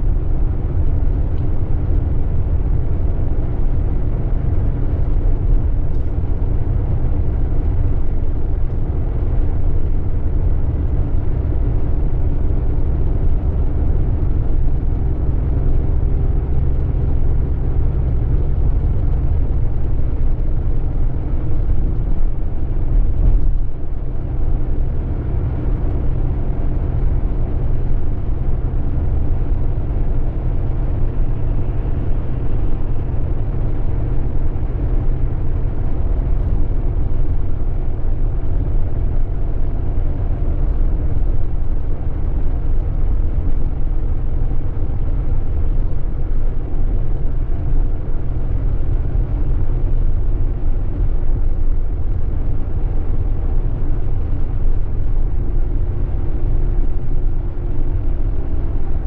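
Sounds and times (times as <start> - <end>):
diesel engine droning: 0.0 - 59.0
road and tyre noise: 0.0 - 59.0.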